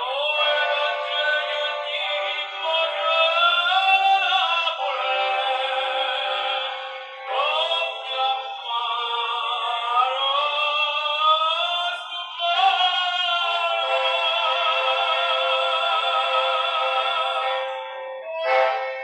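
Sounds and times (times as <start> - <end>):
musical accompaniment: 0.0 - 19.0
tenor singing: 0.0 - 19.0.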